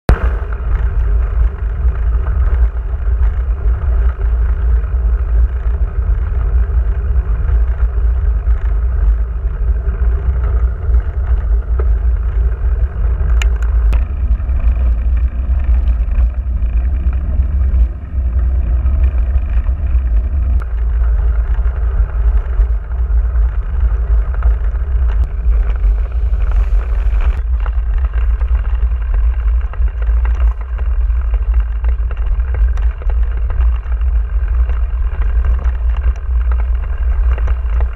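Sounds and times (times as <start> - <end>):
wind rumble on microphone: 0.0 - 37.9
bike rattle: 0.1 - 37.9
bike tyres on gravel: 0.1 - 37.9.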